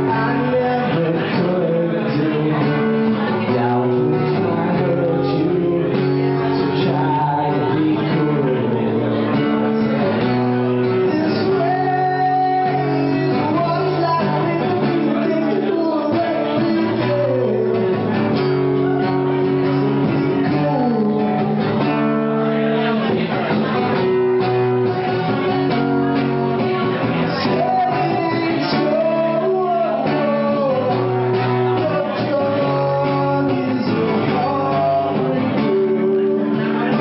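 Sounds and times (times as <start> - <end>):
acoustic guitar: 0.0 - 37.0
person singing: 0.0 - 37.0.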